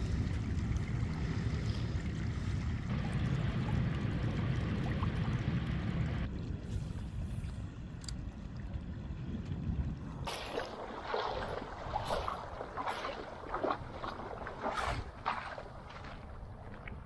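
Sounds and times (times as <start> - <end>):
rumble of river water: 0.0 - 17.0.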